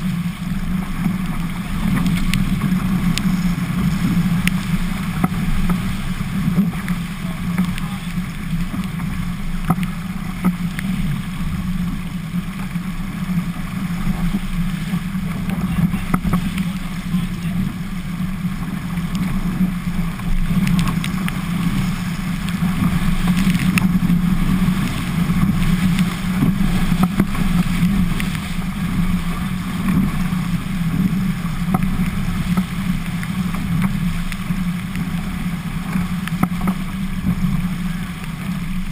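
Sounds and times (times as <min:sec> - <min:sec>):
wind and water rushing past hull: 0:00.0 - 0:38.9.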